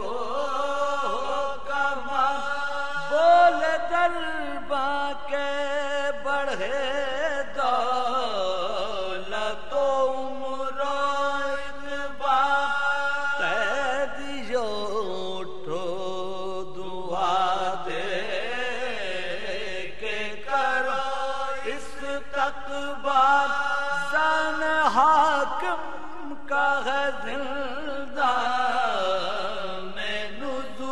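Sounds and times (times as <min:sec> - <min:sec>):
man chanting a slow lament: 0:00.0 - 0:30.9.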